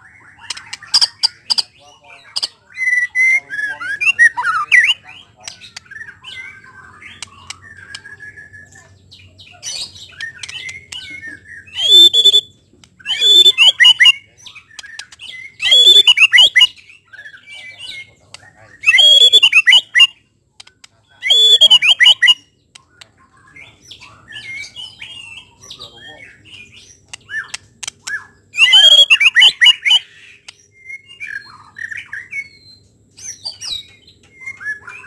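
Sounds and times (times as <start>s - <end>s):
bird song phrases: 0.0s - 35.0s
soft bird chirps: 0.0s - 35.0s.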